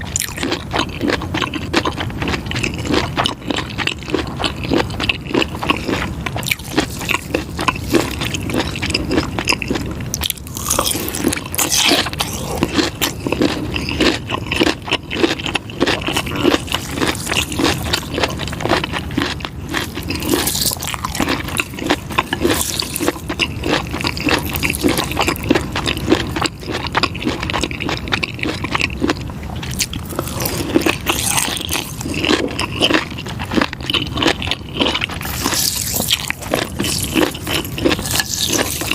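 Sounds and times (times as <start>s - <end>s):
crunching bites and chews: 0.0s - 38.9s.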